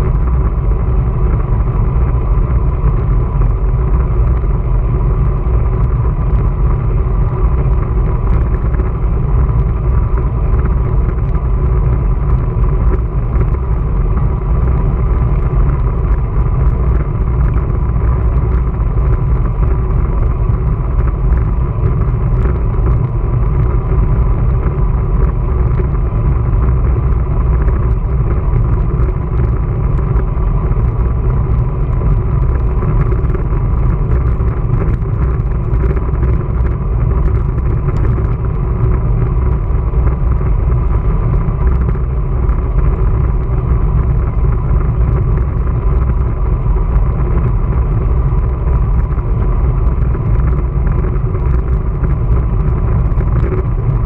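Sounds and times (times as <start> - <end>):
bicycle tyre and road noise: 0.0 - 54.0
faint steady hum: 0.0 - 54.0
wind rumble on microphone: 0.0 - 54.0.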